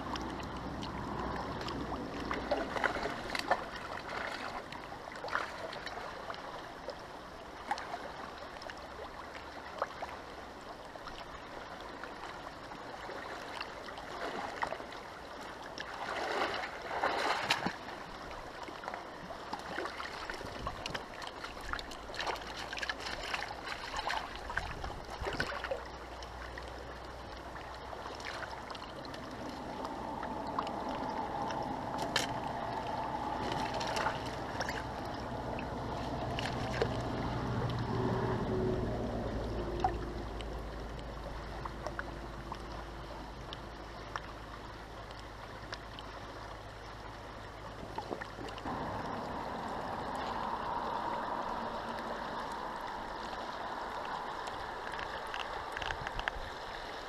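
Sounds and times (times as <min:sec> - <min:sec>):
small splashes and clicks: 0:00.0 - 0:07.0, 0:07.6 - 0:10.3, 0:11.0 - 0:38.2, 0:39.0 - 0:46.9, 0:47.7 - 0:49.3, 0:50.0 - 0:57.0
fast-flowing river water: 0:00.0 - 0:57.0.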